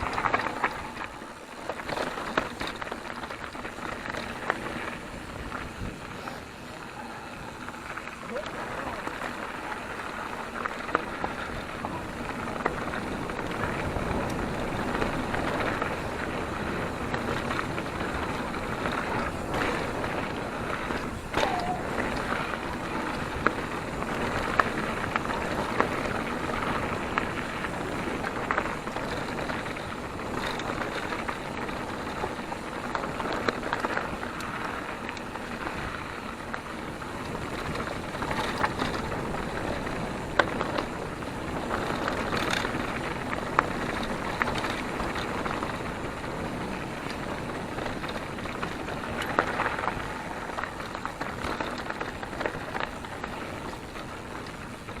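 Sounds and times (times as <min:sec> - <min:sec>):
bike clicking and rattling: 0:00.0 - 0:55.0
bike tyre and wind noise: 0:00.0 - 0:55.0.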